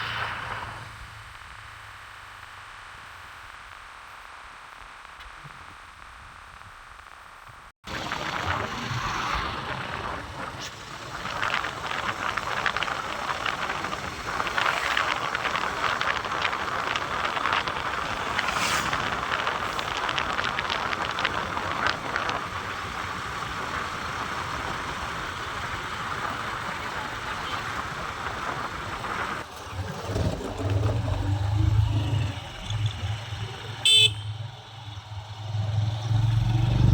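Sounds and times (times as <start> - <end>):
passing vehicles: 0.0 - 2.5, 7.9 - 36.9.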